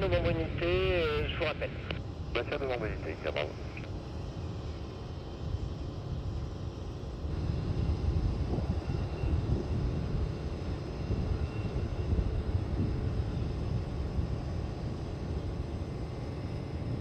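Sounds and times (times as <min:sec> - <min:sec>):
jet engine high whine: 0:00.0 - 0:17.0
jet engines low rumble: 0:00.0 - 0:17.0.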